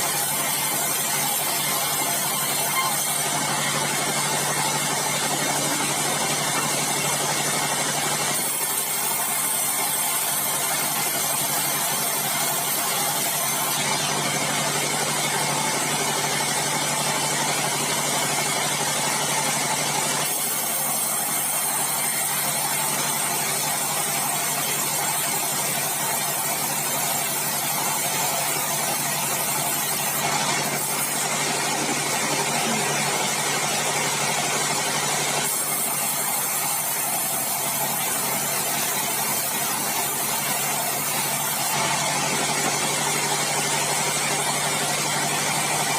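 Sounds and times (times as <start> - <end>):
bandsaw machinery running: 0.0 - 45.9.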